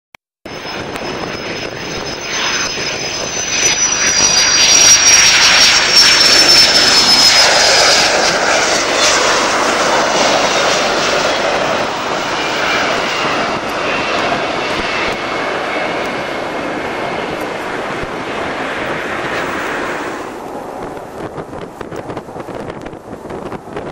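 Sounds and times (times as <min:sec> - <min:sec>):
turbine aircraft whine passing: 0:00.5 - 0:23.9.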